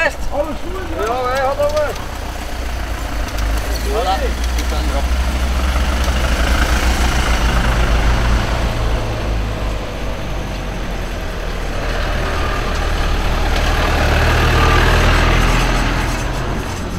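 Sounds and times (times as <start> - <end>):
van engines passing: 0.0 - 16.9.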